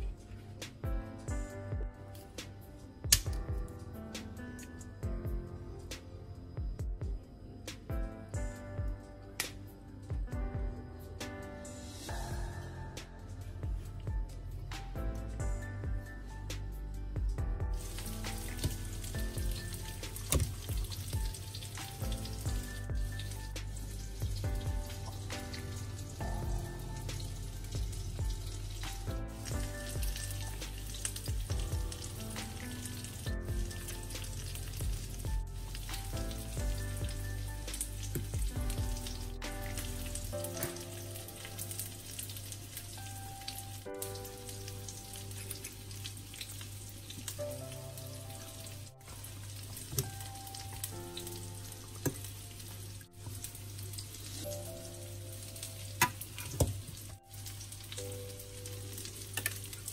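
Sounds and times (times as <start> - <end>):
soft background music: 0.0 - 59.9.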